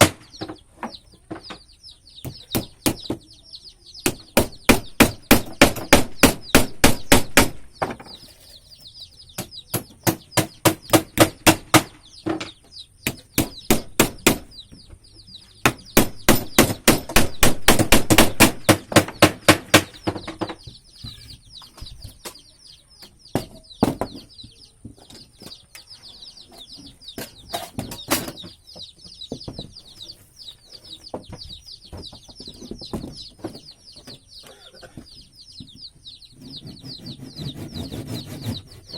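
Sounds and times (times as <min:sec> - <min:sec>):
birds chirping faintly: 0:00.0 - 0:38.9.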